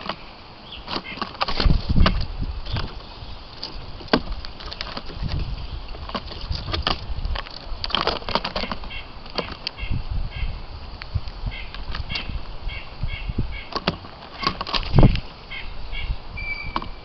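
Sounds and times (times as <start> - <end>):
birds pecking on wood: 0.0 - 12.8, 13.6 - 15.7.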